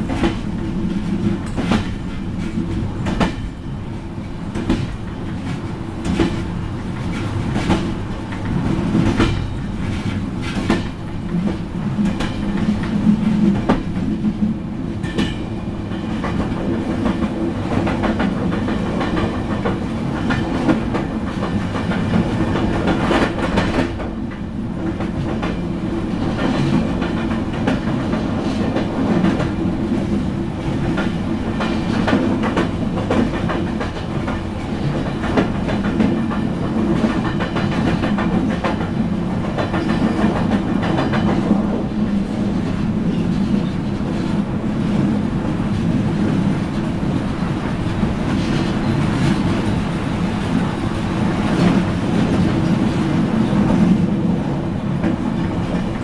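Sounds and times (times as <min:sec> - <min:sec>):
train carriage rumble: 0:00.0 - 0:56.0.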